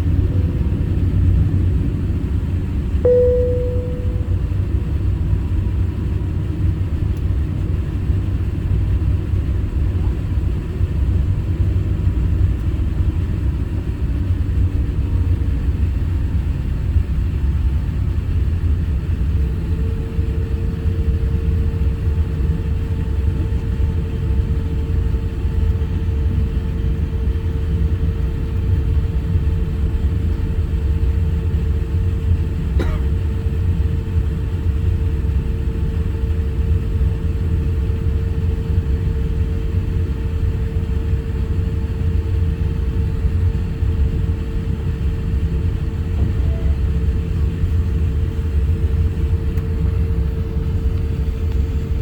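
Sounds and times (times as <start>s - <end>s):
airliner cabin rumble and hum: 0.0s - 52.0s.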